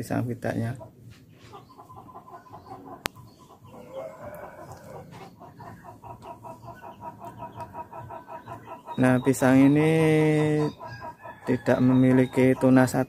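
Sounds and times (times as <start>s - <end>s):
chickens calling: 0.0s - 13.0s.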